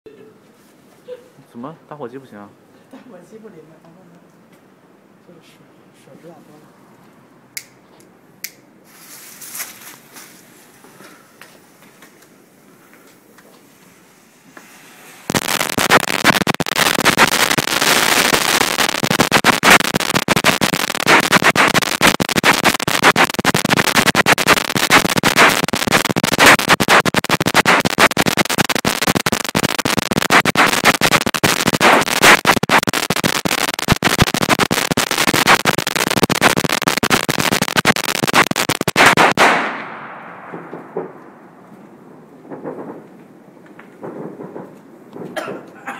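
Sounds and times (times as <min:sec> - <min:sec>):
firecrackers crackling: 0:08.9 - 0:45.8.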